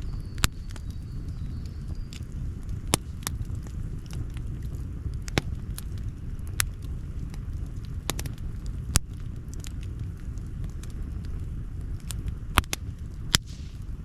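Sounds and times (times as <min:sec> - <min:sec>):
campfire crackling and popping: 0:00.0 - 0:14.0
low fire rumble: 0:00.0 - 0:14.0.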